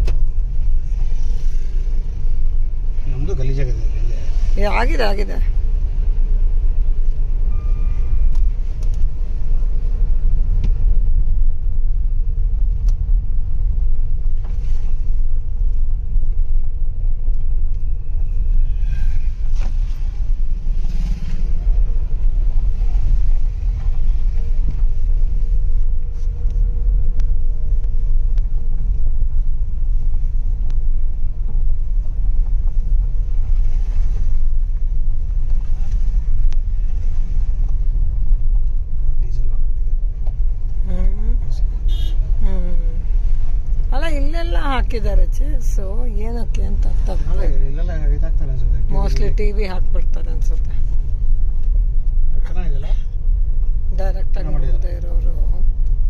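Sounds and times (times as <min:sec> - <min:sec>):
low rumble of engine and tyres: 0:00.0 - 0:56.0.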